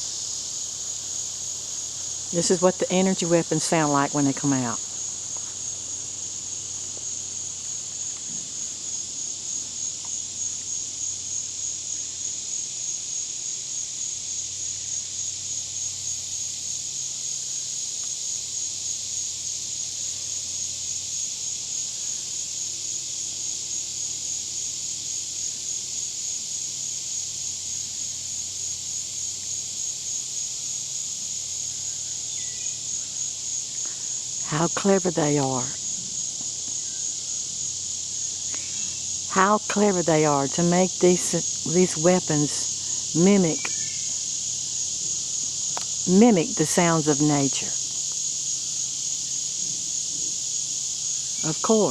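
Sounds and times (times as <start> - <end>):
insects buzzing trill: 0.0 - 51.9.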